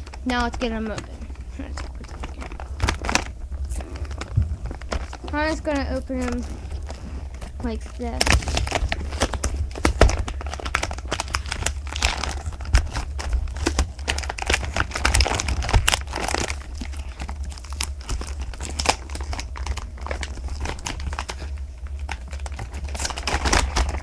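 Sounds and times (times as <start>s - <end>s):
plastic packaging crinkling and tearing: 0.0s - 24.0s.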